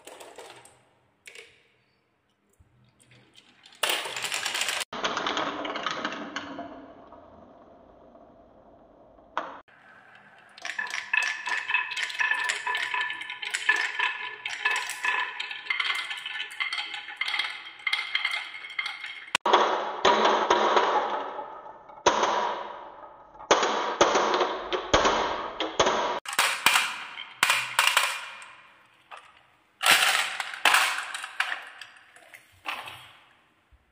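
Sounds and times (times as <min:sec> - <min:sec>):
plastic balls rolling down wooden track: 0:00.0 - 0:01.6, 0:02.9 - 0:08.2, 0:09.6 - 0:33.3.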